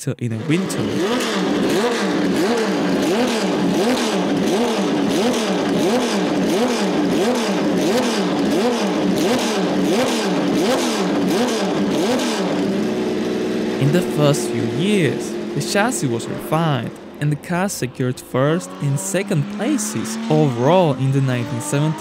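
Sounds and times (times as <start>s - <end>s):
engine revving: 0.2s - 22.0s.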